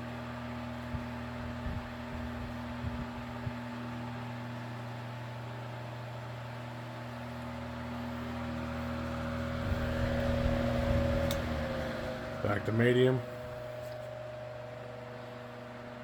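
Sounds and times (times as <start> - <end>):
table fan motor hum and whir: 0.0 - 16.0.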